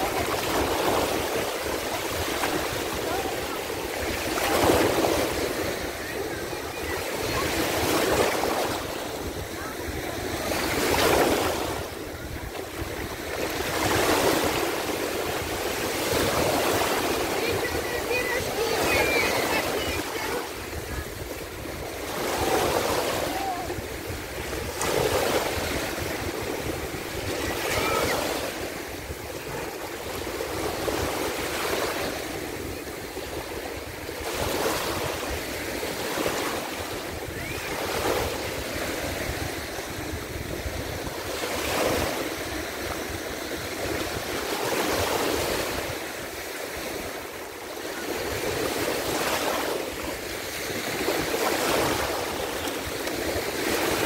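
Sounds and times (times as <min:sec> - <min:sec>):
sea waves washing in: 0:00.0 - 0:54.0.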